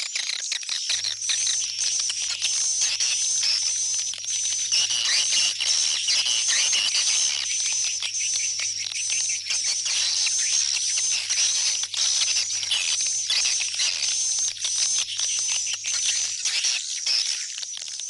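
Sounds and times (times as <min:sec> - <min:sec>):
swiftlets twittering and chirping: 0:00.3 - 0:18.0.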